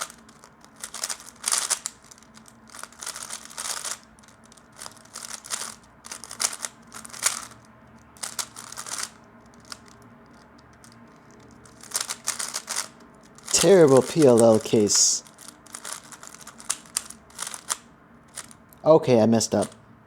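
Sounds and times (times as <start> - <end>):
plastic puzzle cube clicking: 0.0 - 18.8.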